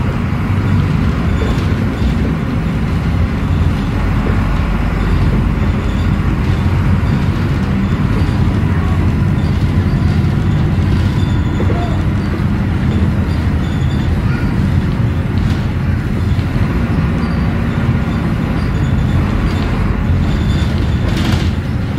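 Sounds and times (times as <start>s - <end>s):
bus diesel engine running: 0.0s - 21.9s
low road rumble: 0.0s - 21.9s.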